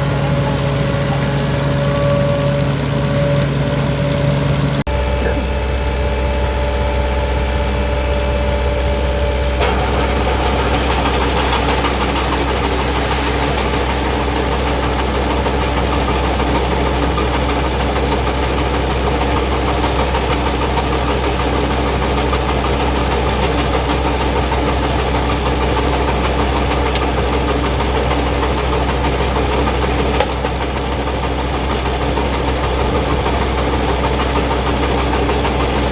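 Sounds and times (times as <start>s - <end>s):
clattering machinery: 0.0s - 35.9s
combine harvester engine running: 0.0s - 35.9s.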